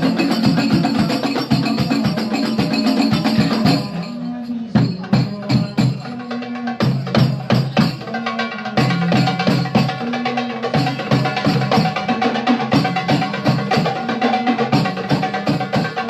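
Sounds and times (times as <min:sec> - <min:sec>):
goblet drums hand rhythm: 0:00.0 - 0:16.0.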